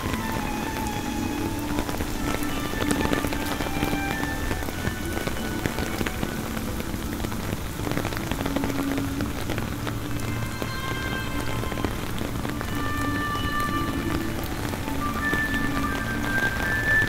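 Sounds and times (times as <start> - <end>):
raindrops hitting a surface: 0.0 - 17.0
steady rain: 0.0 - 17.0.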